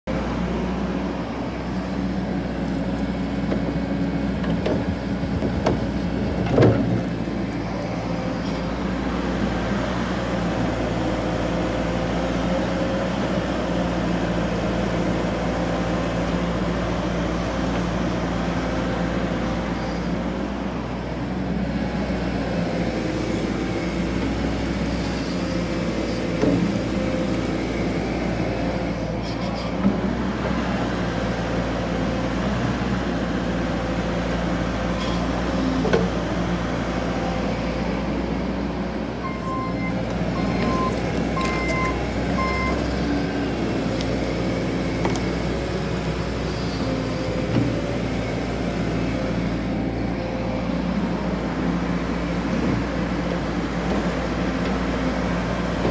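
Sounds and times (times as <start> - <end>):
excavator diesel engine running: 0.1 - 55.9.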